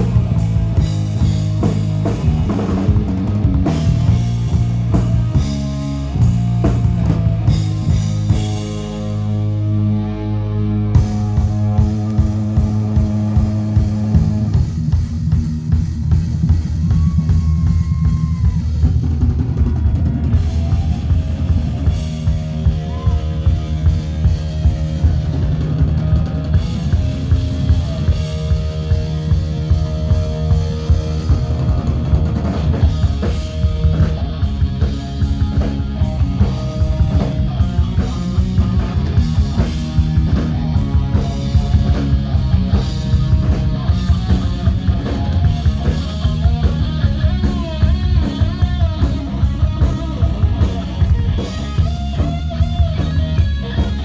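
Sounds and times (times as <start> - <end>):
rock music: 0.0 - 54.0.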